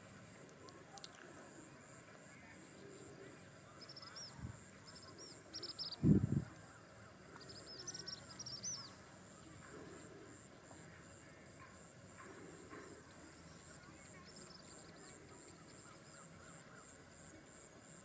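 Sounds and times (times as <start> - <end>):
birds chirping: 2.4 - 17.2.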